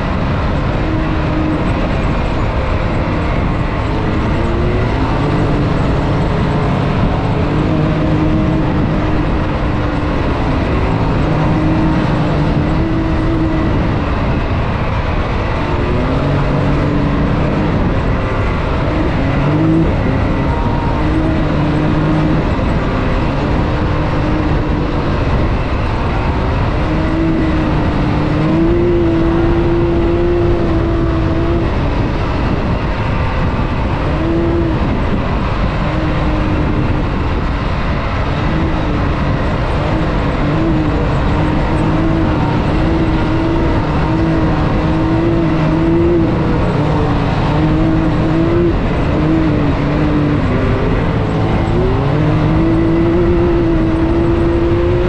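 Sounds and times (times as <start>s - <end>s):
loud rushing noise: 0.0s - 55.0s
off-road vehicle engine revving: 0.0s - 55.0s.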